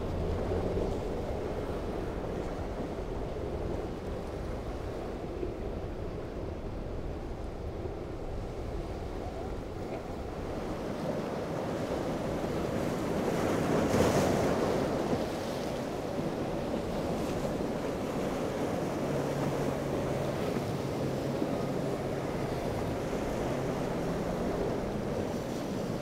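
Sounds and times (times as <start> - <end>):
outboard motor hum: 0.0 - 26.0
surf and water rushing: 0.0 - 26.0.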